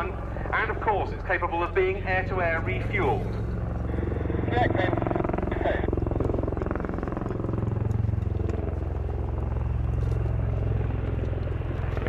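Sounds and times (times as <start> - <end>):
aircraft engine noise: 0.0 - 12.0
low rapid rotor blade beat: 0.0 - 12.0.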